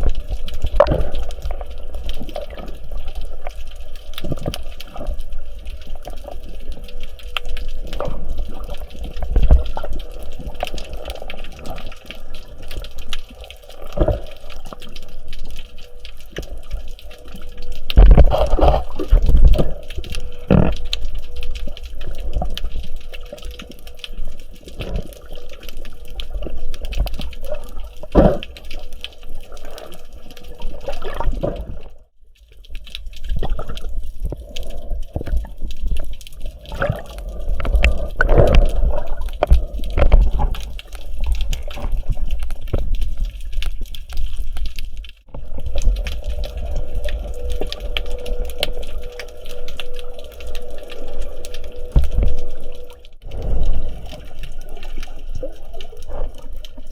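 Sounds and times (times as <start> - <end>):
water sloshing and bubbling: 0.0 - 56.9.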